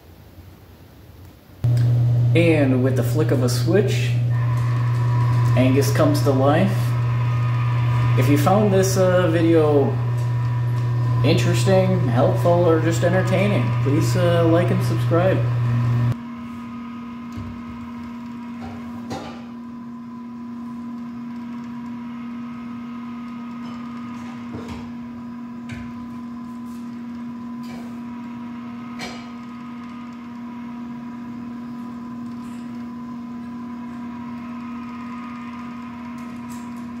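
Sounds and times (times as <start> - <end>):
small electric motor humming: 1.6 - 37.0.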